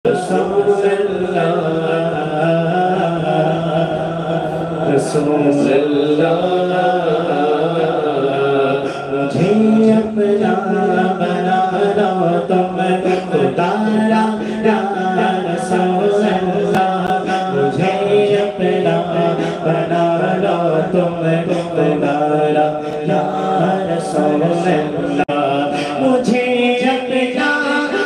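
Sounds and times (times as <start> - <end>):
man chanting into a microphone: 0.0 - 28.0.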